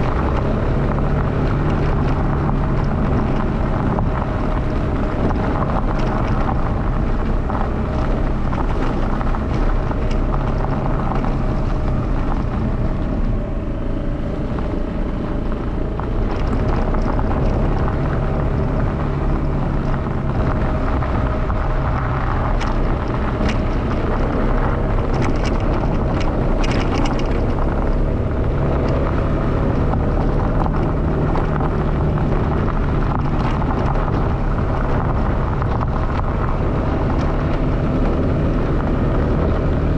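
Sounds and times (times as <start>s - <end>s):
stones crackling: 0.0s - 39.9s
tyres rumbling on gravel: 0.0s - 39.9s
wind buffeting microphone: 0.0s - 39.9s.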